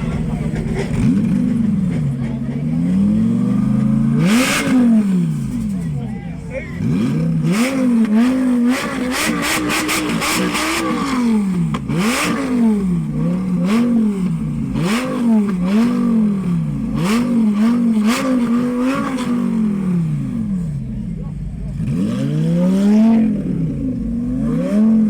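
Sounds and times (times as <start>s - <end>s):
supercar engine revving: 0.0s - 25.0s.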